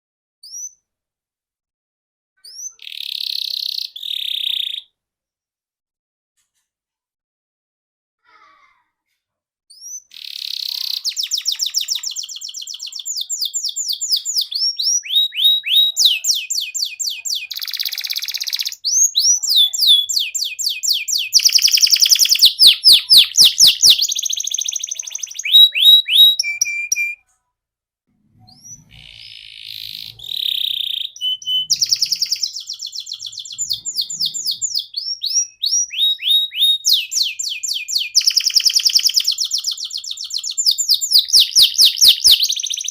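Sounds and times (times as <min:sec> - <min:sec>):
canary singing trills: 0:02.4 - 0:04.9, 0:09.7 - 0:27.2, 0:28.5 - 0:42.9.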